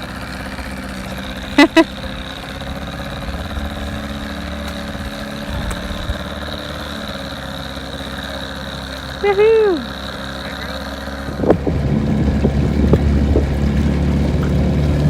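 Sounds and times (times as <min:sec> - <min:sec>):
motor idling: 0:00.0 - 0:15.0.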